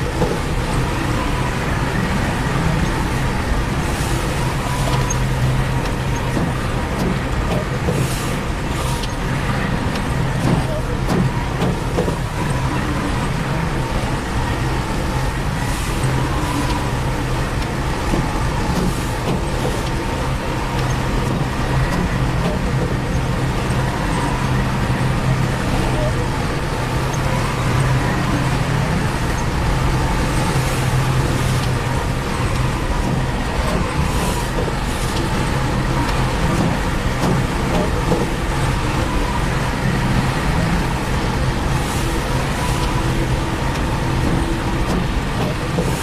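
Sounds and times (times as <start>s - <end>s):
heavy diesel engine running: 0.0s - 46.0s.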